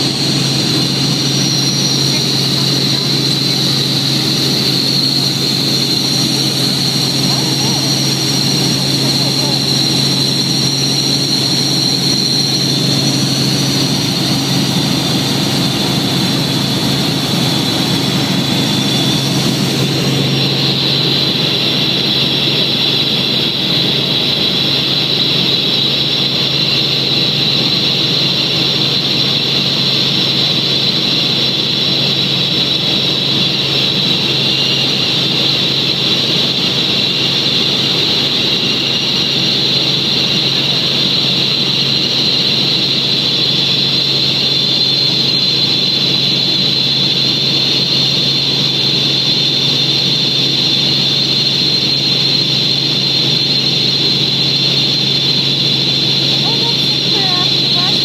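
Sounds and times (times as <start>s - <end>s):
high whine: 0.0s - 30.0s, 30.8s - 58.0s
helicopter engine and rotor drone: 0.0s - 58.0s.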